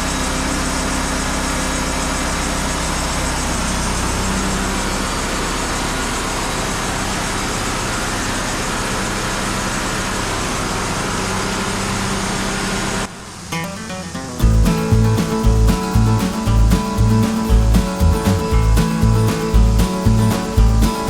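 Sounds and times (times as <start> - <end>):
band sawmill running: 0.0 - 13.1, 14.4 - 21.0.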